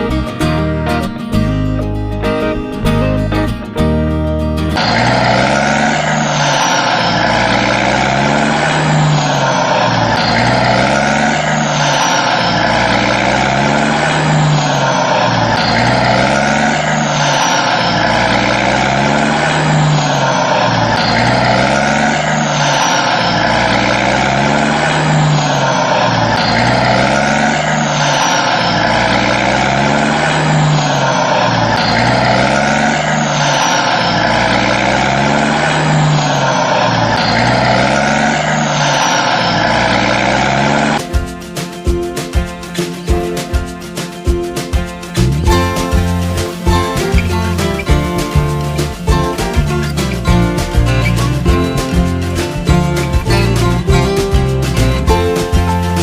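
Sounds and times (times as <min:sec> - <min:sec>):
engine drone: 0:00.0 - 0:41.3, 0:45.1 - 0:56.0.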